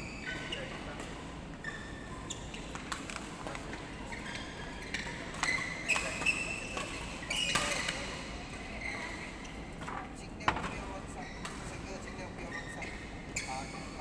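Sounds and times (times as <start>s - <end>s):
shoes squeaking on court: 0.0s - 14.0s.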